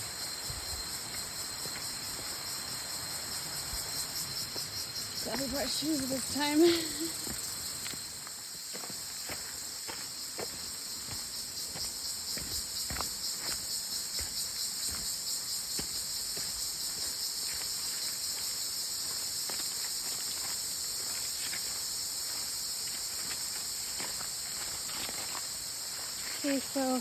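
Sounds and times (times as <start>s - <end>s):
high-pitched insect chorus: 0.0s - 27.0s
footsteps scuffing on trail: 0.5s - 2.7s, 3.8s - 27.0s.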